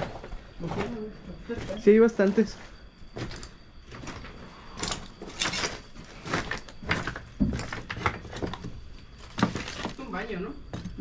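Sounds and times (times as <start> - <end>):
footsteps crunching over rubble: 0.0 - 11.0.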